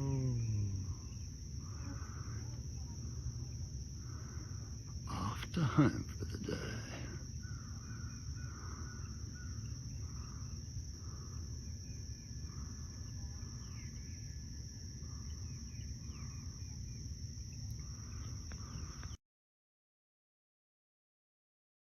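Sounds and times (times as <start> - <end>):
high-pitched insect buzz: 0.0 - 5.0, 5.6 - 19.2.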